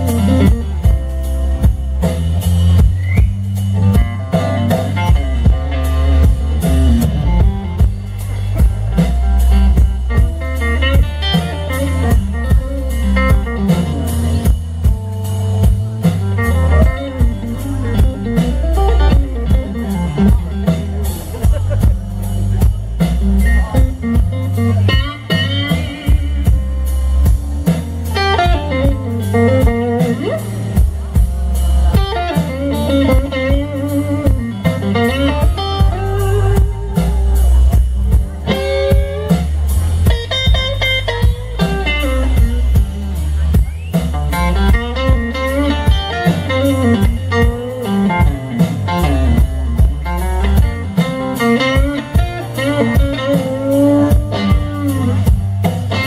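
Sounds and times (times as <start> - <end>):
bass guitar: 0.0 - 56.0
drums: 0.0 - 56.0
electric guitar solo with bent notes: 0.0 - 56.0.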